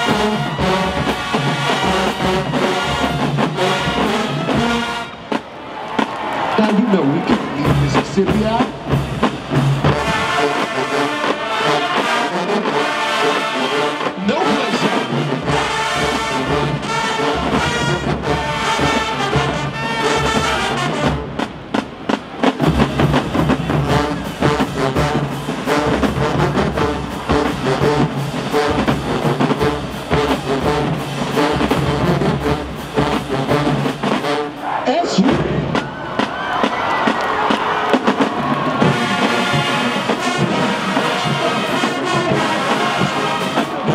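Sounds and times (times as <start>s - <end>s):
drums: 0.0s - 43.9s
marching band brass: 0.0s - 43.9s.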